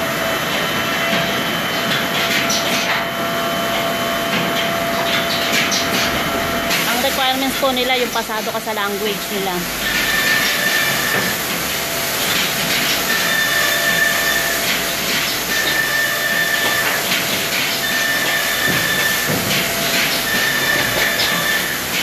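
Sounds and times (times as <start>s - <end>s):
high machine whine: 0.0s - 22.0s
woodworking machine hissing: 0.0s - 22.0s.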